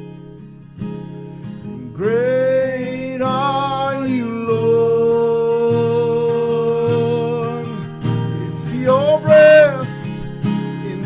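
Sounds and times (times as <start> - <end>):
acoustic guitar: 0.0 - 11.0
person singing: 1.8 - 11.0.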